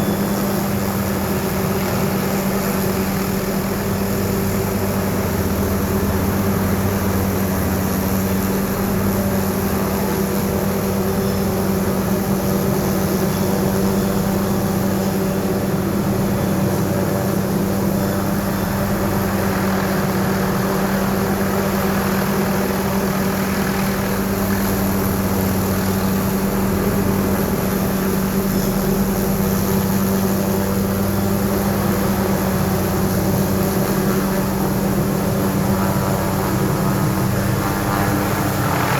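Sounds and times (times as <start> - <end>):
helicopter drone: 0.0 - 38.9.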